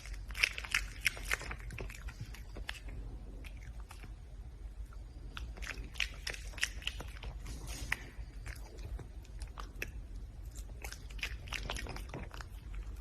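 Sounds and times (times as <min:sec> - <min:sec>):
red panda chewing food: 0:00.0 - 0:04.2, 0:05.2 - 0:13.0.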